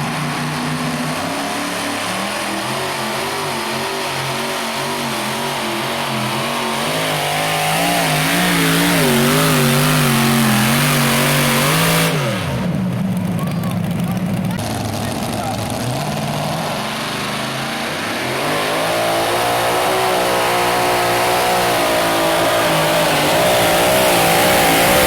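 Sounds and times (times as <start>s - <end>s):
pulling vehicle engine under load: 0.0s - 25.0s.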